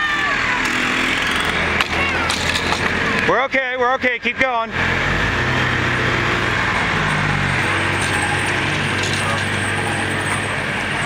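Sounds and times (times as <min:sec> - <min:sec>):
trailer rattling: 0:00.0 - 0:11.0
vehicle engine running slowly: 0:00.0 - 0:11.0.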